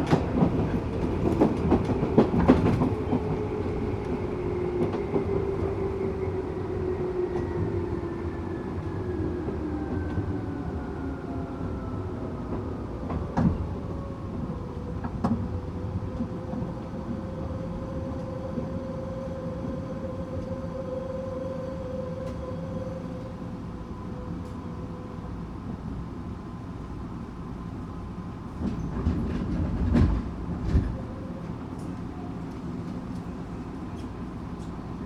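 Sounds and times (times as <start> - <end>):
train wheels rumbling: 0.0 - 25.2, 27.7 - 35.0.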